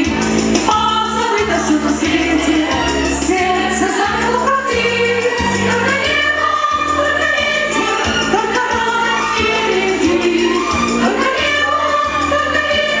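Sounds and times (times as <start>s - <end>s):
bass line: 0.0s - 13.0s
choir-like pop vocals: 0.0s - 13.0s
instrumental backing: 0.0s - 13.0s.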